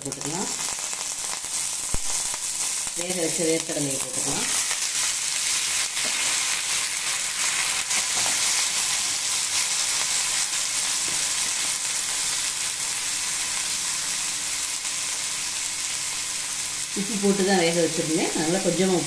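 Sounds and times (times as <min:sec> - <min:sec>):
peanuts sizzling in oil: 0:00.0 - 0:19.0.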